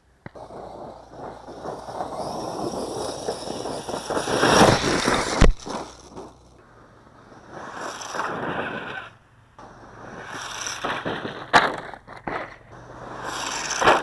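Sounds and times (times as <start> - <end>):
faint high motor whine: 0.0 - 14.0
tyres crunching on gravel: 0.2 - 14.0.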